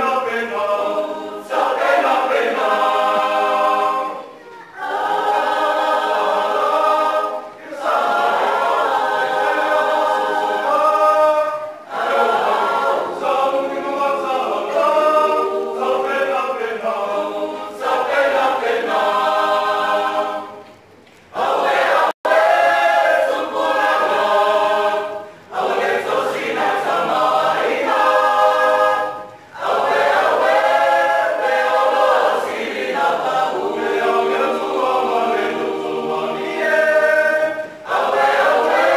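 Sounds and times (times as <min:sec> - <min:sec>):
mixed choir singing a cappella: 0:00.0 - 0:38.9.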